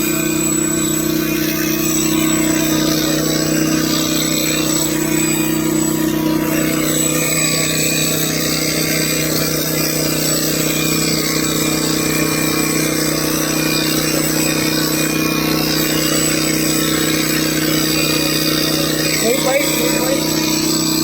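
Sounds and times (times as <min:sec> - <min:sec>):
small motor humming: 0:00.0 - 0:21.0.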